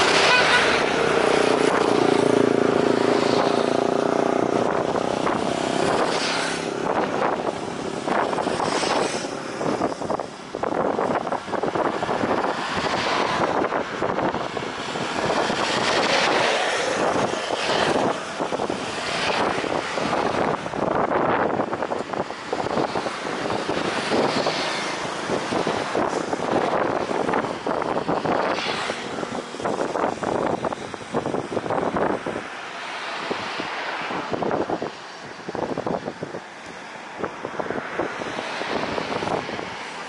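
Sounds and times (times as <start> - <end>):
passing road traffic: 0.0 - 40.0
vehicle engine hum: 0.0 - 40.0
wind buffeting microphone: 0.0 - 40.0.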